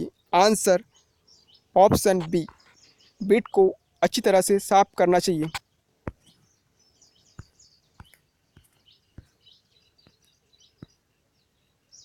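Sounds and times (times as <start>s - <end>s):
faint birdsong: 0.0s - 12.0s
low background noise: 0.0s - 12.0s.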